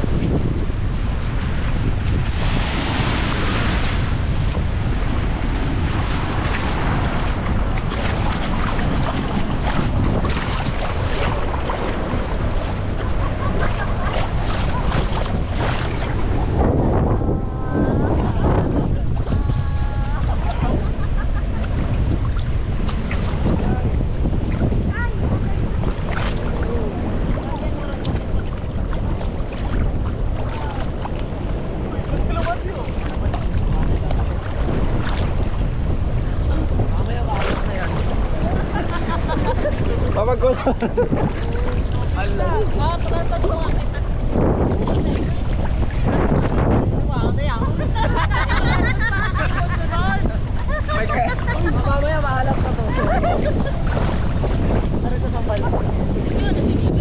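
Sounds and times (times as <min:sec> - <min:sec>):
water lapping and splashing: 0:00.0 - 0:57.0
wind on microphone: 0:00.0 - 0:57.0.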